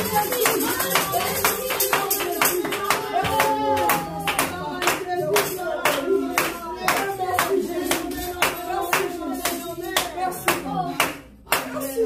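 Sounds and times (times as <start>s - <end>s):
congregation clapping hands: 0.0s - 12.0s
voices singing a praise song: 0.0s - 12.0s.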